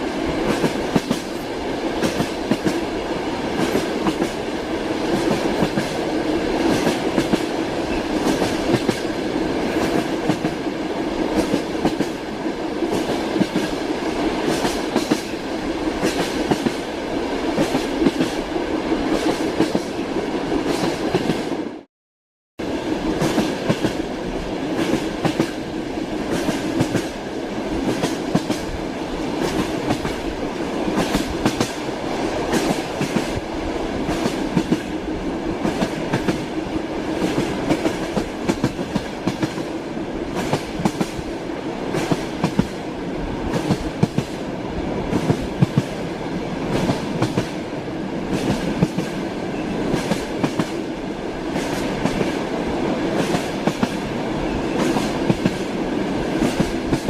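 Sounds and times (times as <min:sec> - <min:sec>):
train wheels clattering on rails: 0:00.4 - 0:02.9, 0:03.5 - 0:10.7, 0:11.3 - 0:12.2, 0:12.8 - 0:15.4, 0:16.0 - 0:16.9, 0:17.5 - 0:19.9, 0:23.2 - 0:24.0, 0:24.7 - 0:25.6, 0:26.2 - 0:35.0, 0:35.6 - 0:36.5, 0:37.1 - 0:42.8, 0:43.5 - 0:44.4, 0:45.1 - 0:47.6, 0:48.2 - 0:57.0.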